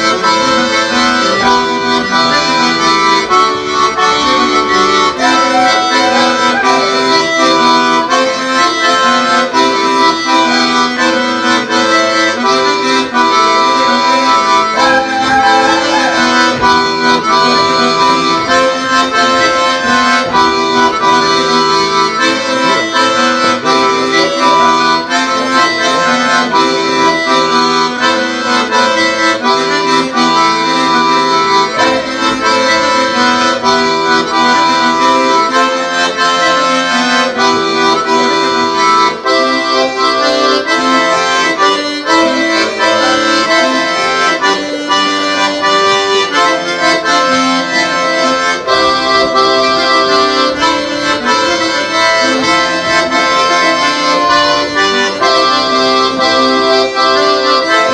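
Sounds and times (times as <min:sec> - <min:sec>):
instrumental folk dance music: 0:00.0 - 0:57.9.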